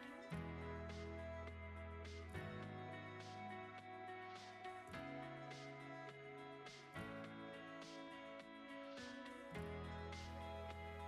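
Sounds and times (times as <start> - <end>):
background music of sustained chords: 0.0 - 11.0.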